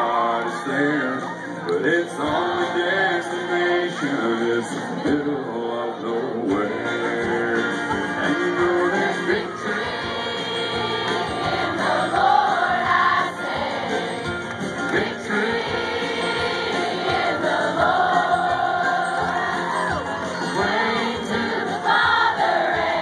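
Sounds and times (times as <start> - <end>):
acoustic guitar: 0.0 - 23.0
banjo: 0.0 - 23.0
voices singing: 0.0 - 23.0
drums: 1.1 - 5.5, 6.2 - 23.0.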